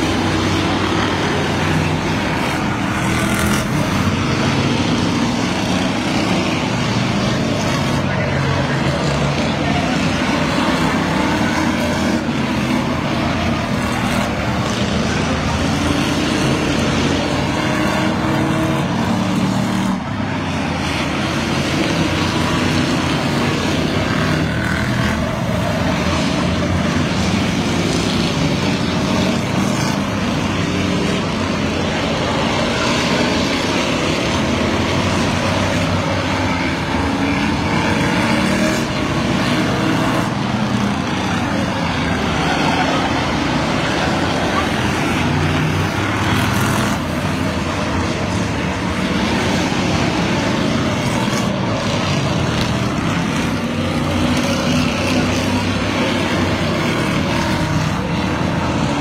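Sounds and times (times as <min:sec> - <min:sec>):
racing car engines: 0:00.0 - 0:59.0.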